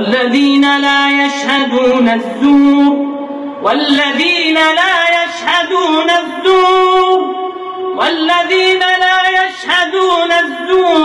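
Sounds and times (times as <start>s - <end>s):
person reciting melodically: 0.0s - 11.0s.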